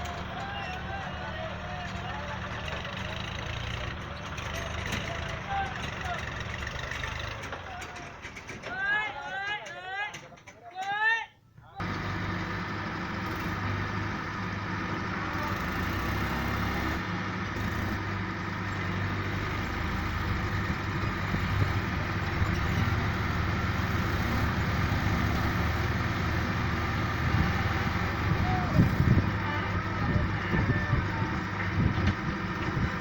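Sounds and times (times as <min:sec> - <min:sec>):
heavy diesel engine running: 0:00.0 - 0:08.9, 0:11.8 - 0:33.0.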